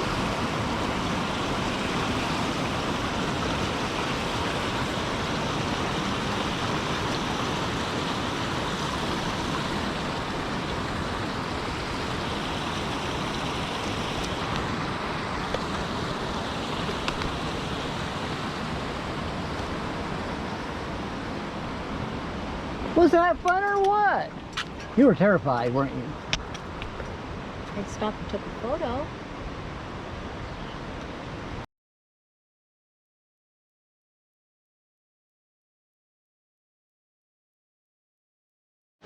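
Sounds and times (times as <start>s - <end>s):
river water rushing: 0.0s - 31.6s.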